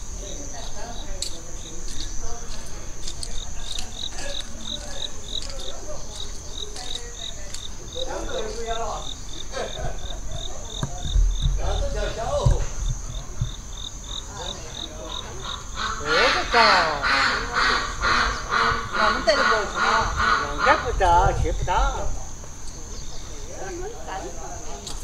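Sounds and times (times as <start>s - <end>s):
insects high-pitched buzz: 0.0s - 25.0s
rapid insect chirping: 0.0s - 25.0s.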